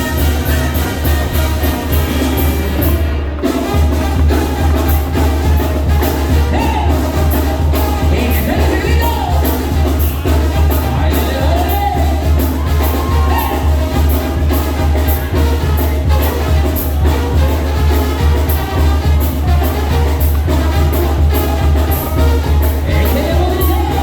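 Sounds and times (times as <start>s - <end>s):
latin dance music: 0.0s - 24.0s.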